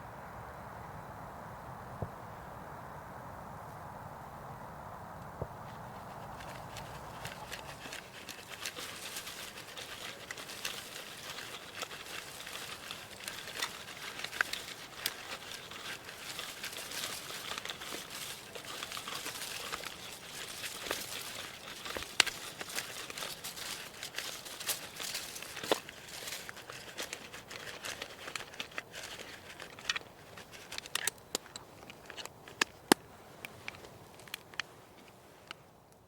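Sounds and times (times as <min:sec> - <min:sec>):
material crinkling and rustling: 0:05.6 - 0:35.5.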